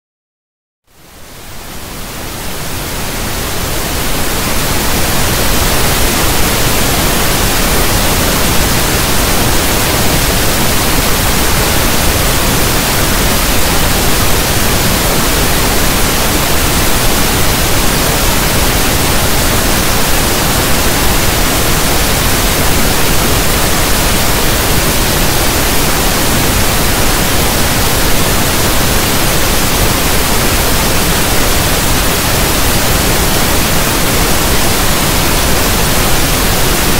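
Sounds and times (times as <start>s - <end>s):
pink noise hiss: 0.9s - 36.9s.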